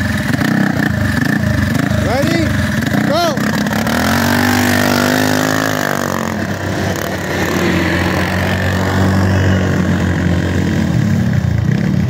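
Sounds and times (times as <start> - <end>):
mini bike engines running hard: 0.0 - 12.0.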